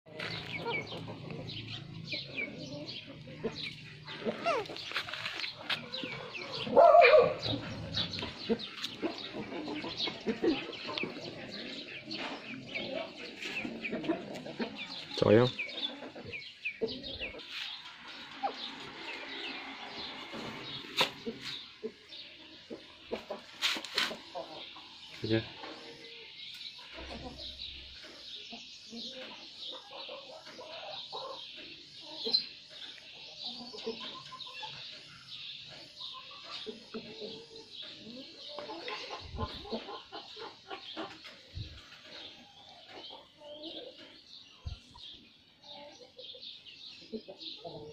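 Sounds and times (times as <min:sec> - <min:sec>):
chickens clucking: 0:00.1 - 0:47.9.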